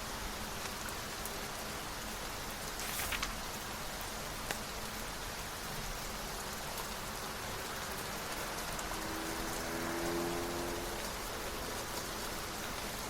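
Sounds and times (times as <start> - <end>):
rain falling on a surface: 0.0 - 13.0.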